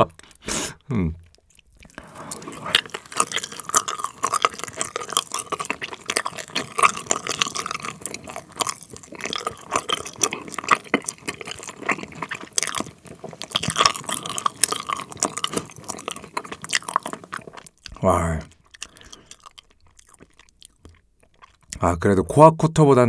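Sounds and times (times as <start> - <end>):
mouth clicks and smacks: 0.0 - 21.9
chewing gummy candy: 1.2 - 21.9.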